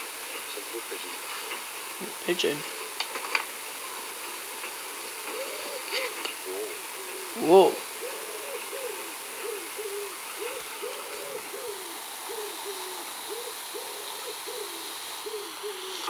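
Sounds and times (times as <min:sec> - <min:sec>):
pigeon cooing: 0:00.0 - 0:16.0.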